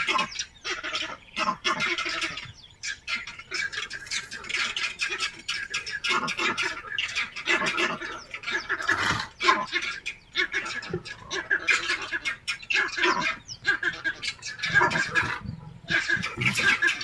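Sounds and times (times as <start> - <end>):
flock of birds calling: 0.0 - 17.0.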